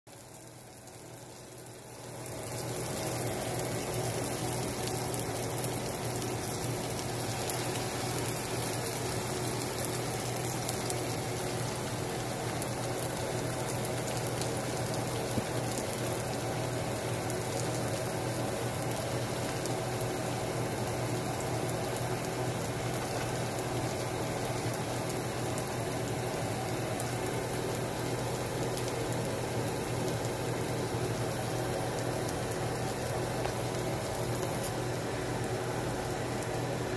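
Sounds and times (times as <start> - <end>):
food sizzling in frying pan: 0.1 - 36.9
small pops of frying: 0.1 - 36.9
steady low hum: 0.2 - 36.9.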